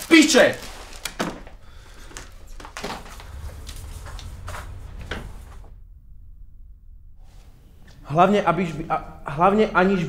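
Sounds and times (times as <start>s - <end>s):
low steady hum: 1.5s - 10.0s.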